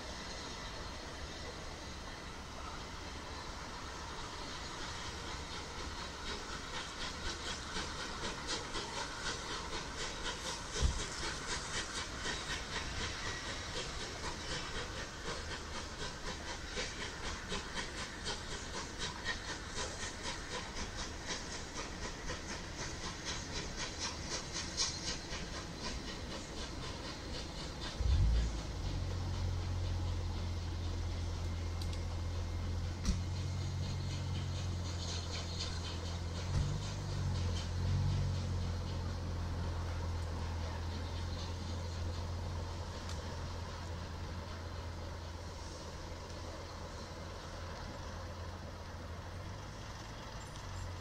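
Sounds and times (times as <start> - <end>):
steam locomotive exhaust beats: 0.0 - 51.0.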